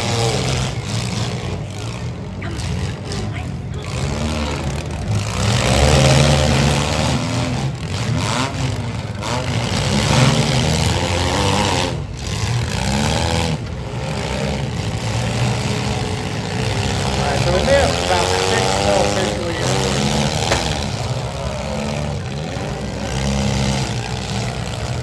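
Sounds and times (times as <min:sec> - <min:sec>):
car engines revving: 0:00.0 - 0:25.0
noisy background: 0:00.0 - 0:25.0.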